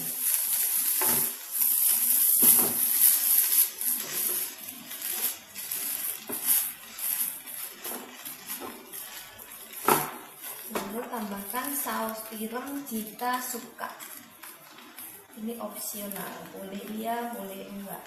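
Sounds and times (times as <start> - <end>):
noodles sizzling in a pan: 0.0 - 18.0
spatula scraping and tossing: 0.0 - 18.0.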